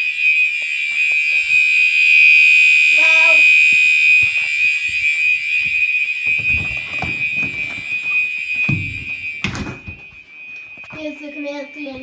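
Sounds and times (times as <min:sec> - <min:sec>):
fire alarm high-pitched tone: 0:00.0 - 0:12.0
footsteps: 0:00.5 - 0:01.8, 0:03.0 - 0:12.0.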